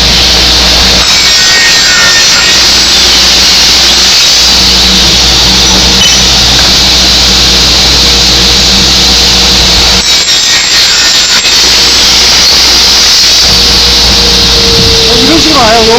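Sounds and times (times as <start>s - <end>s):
circular saw running: 0.0s - 15.9s.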